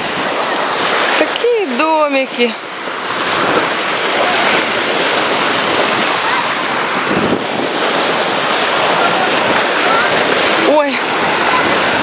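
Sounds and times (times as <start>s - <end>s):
waves washing onto sandy beach: 0.0s - 12.0s
wind on microphone: 0.0s - 12.0s.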